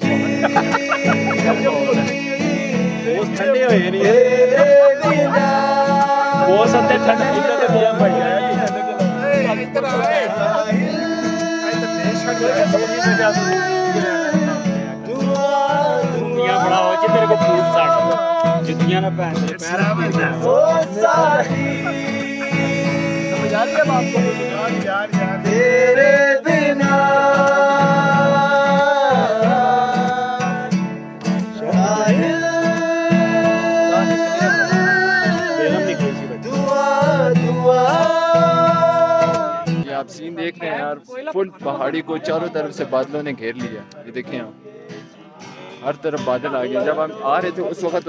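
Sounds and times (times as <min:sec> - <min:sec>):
men singing together: 0:00.0 - 0:39.9
acoustic guitar strumming: 0:00.0 - 0:48.0.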